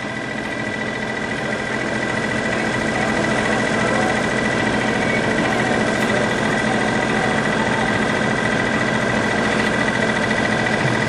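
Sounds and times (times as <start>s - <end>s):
mechanical drone with high whine: 0.0s - 11.0s.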